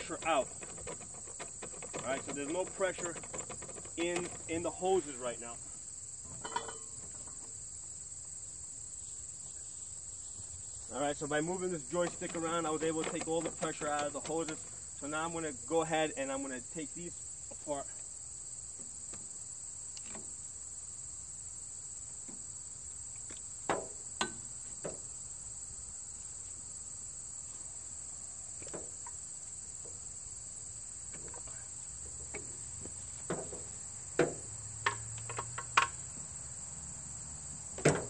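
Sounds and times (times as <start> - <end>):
crickets chirring: 0.0 - 38.0.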